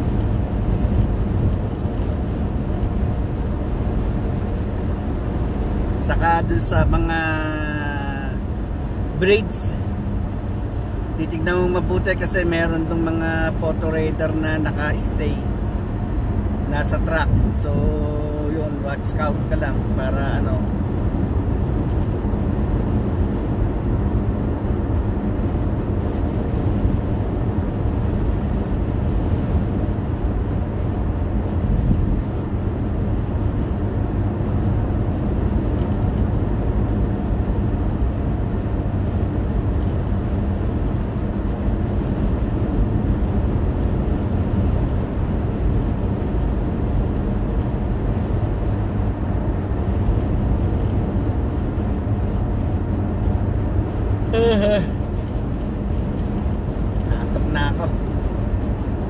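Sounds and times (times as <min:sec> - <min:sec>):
car road noise at highway speed: 0:00.0 - 0:59.0.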